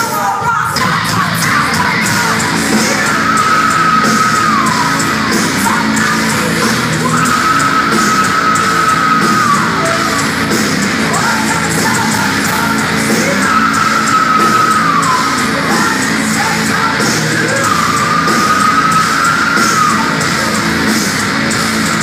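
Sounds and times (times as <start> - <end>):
live heavy metal band: 0.0 - 22.0
drum beat: 1.0 - 22.0.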